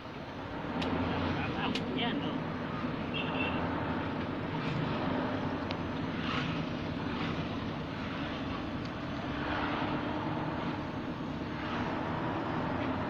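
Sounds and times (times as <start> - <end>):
road and engine noise in car cabin: 0.0 - 13.0.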